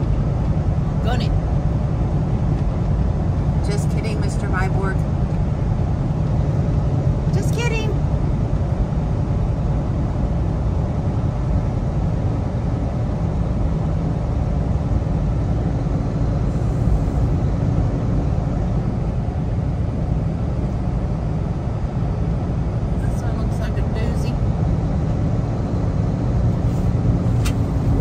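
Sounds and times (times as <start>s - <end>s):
truck engine and tyres drone: 0.0s - 28.0s.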